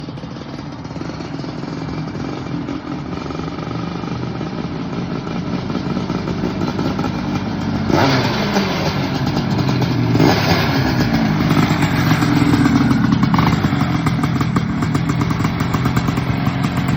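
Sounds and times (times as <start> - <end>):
go-kart engine running: 0.0 - 16.9.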